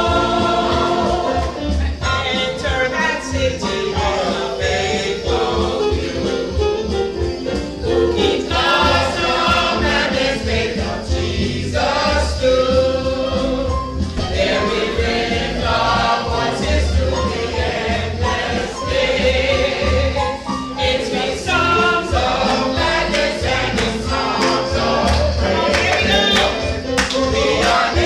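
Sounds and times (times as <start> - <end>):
choir singing gospel: 0.0 - 28.0
instrumental accompaniment: 0.0 - 28.0.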